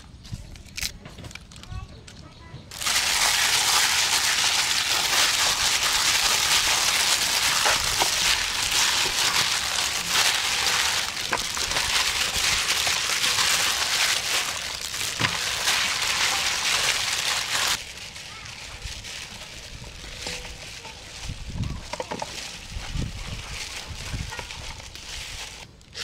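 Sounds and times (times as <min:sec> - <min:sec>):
plastic gloves crinkling: 0:02.7 - 0:26.0
wet squishing of meat: 0:02.7 - 0:26.0.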